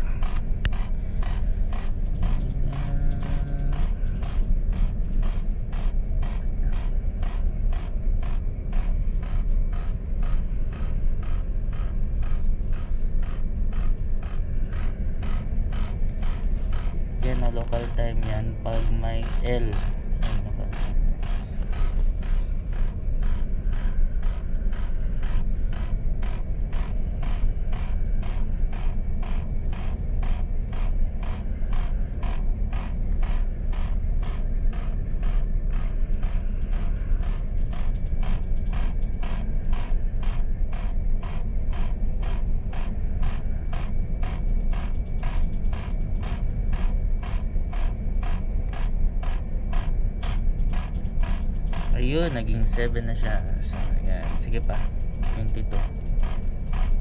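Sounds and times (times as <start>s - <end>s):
steady low hum: 0.0s - 57.0s
clock clicking: 0.2s - 57.0s.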